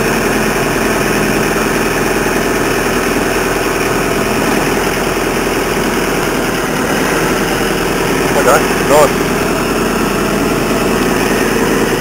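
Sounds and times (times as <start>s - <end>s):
stump grinder engine idling: 0.0s - 12.0s.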